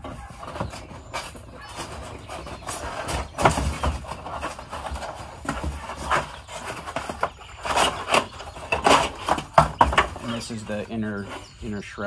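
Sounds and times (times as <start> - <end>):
cardboard box being handled: 0.0 - 11.7
scraping and rustling: 0.0 - 12.0.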